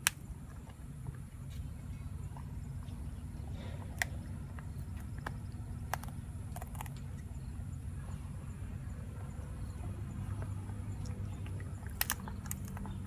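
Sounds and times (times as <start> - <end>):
dog teeth crunching chew: 0.0 - 13.0
steady low rumble: 0.0 - 13.0.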